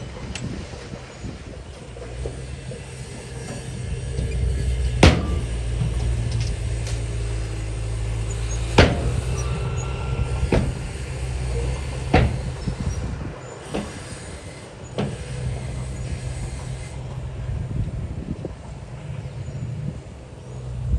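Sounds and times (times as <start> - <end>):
heavy diesel machinery droning: 0.0 - 20.9.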